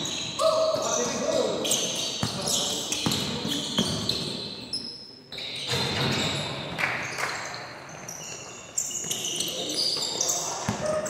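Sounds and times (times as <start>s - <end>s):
shoe squeaks: 0.0s - 11.0s.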